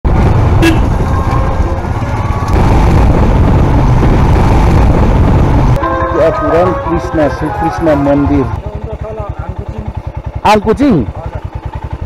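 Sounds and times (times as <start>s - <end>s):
motorcycle engine running: 0.1s - 12.0s.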